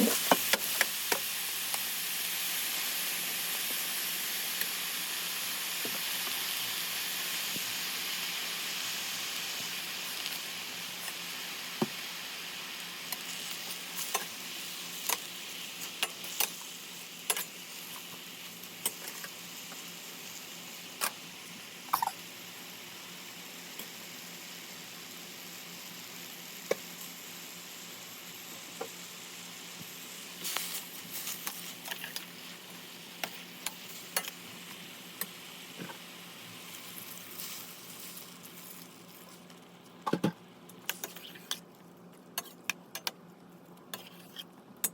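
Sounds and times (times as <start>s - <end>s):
vegetables sizzling in a pan: 0.0s - 39.8s.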